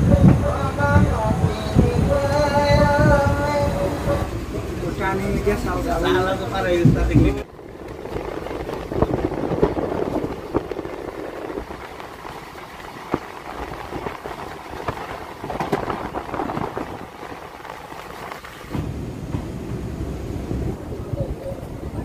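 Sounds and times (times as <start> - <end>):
train rushing rumble: 0.0 - 22.0
wheel and coach clanks: 0.0 - 22.0.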